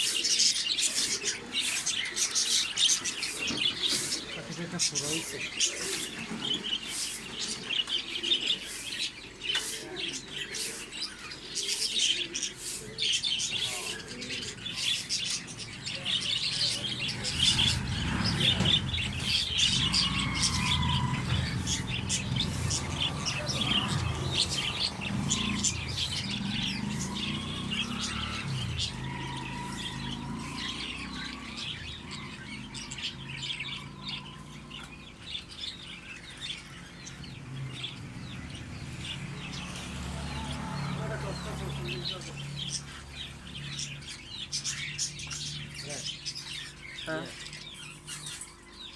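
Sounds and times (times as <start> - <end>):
small birds chirping and twittering: 0.0 - 48.9.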